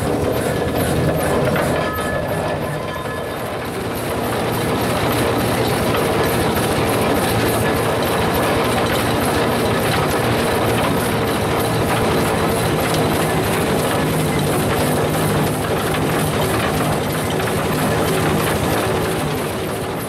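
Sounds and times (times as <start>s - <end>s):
steam engine running: 0.0s - 20.0s.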